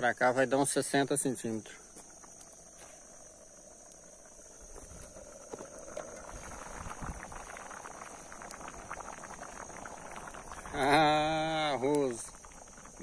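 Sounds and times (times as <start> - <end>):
rice pot boiling and bubbling: 0.0 - 13.0
wood fire crackling: 0.2 - 13.0.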